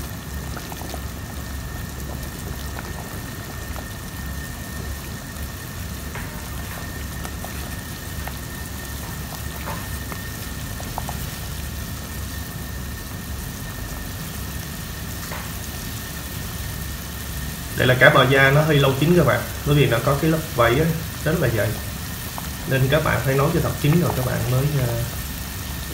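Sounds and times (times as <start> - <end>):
low steady rumble: 0.0 - 25.9
soup bubbling at a boil: 0.0 - 25.9.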